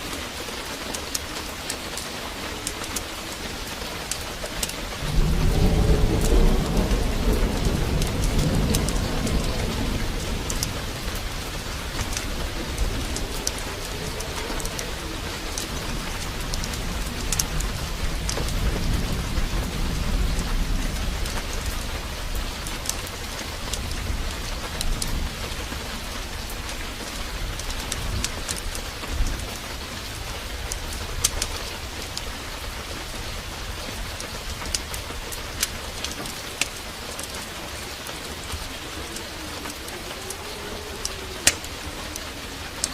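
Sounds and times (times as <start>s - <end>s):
heavy rain hissing: 0.0s - 42.9s
thunder rumbling: 0.0s - 42.9s.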